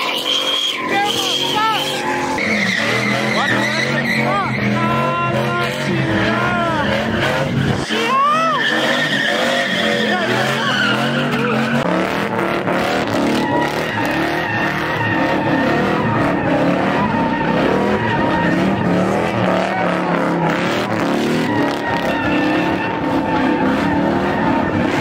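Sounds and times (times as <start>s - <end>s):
tires squealing: 0.0s - 25.0s
truck engine at high revs: 0.0s - 25.0s.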